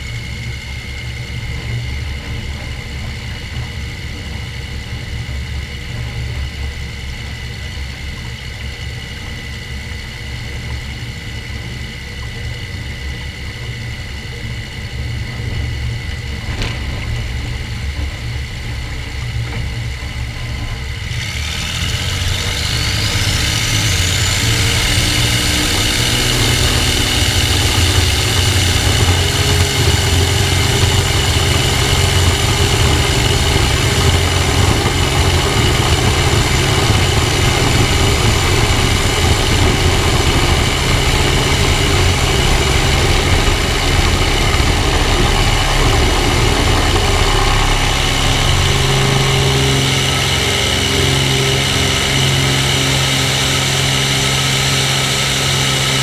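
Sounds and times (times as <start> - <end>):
plane engine and propeller: 0.0 - 56.0
wheels rumbling on asphalt: 0.0 - 56.0.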